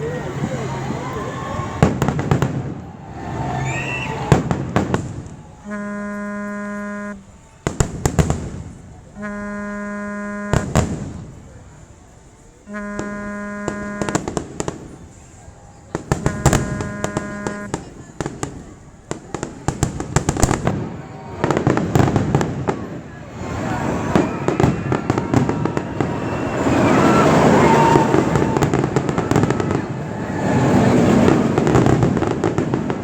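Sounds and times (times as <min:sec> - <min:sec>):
fireworks bangs and crackles: 0:00.0 - 0:05.8, 0:07.0 - 0:09.2, 0:10.5 - 0:11.8, 0:12.8 - 0:33.0.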